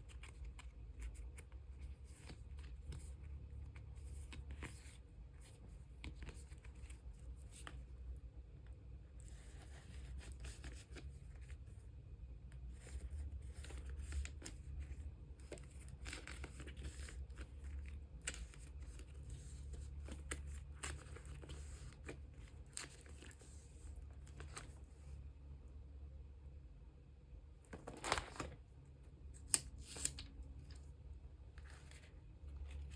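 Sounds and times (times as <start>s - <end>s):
plastic sleeves rustling and crinkling: 0.0s - 8.0s, 9.1s - 11.9s, 12.6s - 25.2s, 27.6s - 28.7s, 29.3s - 32.9s
faint steady low hum: 0.0s - 32.9s.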